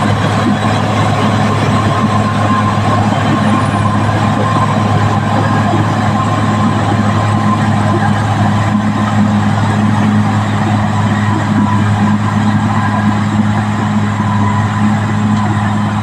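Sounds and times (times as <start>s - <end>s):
bulldozer diesel engine droning: 0.0s - 16.0s
faint steady whine: 0.0s - 16.0s.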